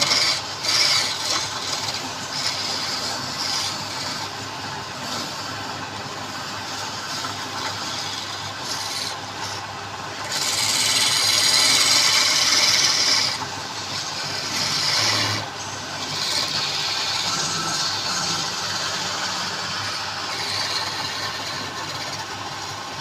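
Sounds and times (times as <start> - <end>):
lathe tool scraping spinning wood: 0.0 - 23.0.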